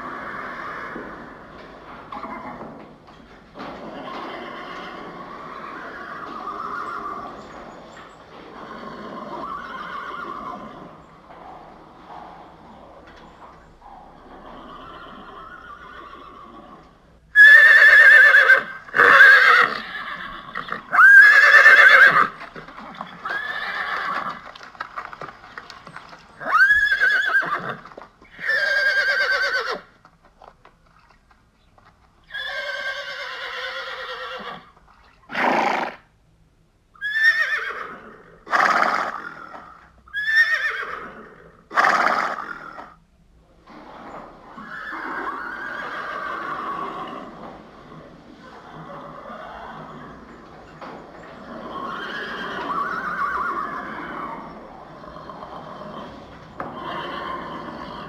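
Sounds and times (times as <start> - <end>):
horses neighing: 0.0 - 30.0, 32.2 - 36.0, 37.0 - 43.0, 43.6 - 58.0.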